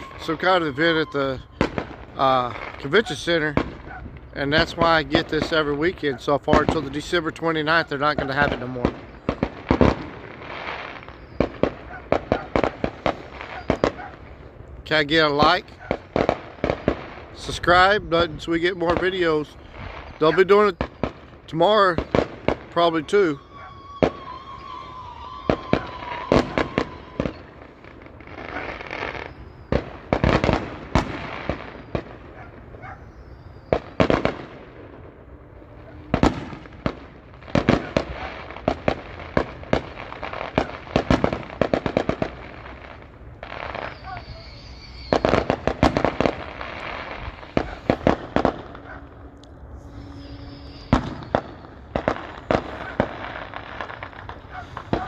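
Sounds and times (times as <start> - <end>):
fireworks banging and crackling: 0.0 - 55.0.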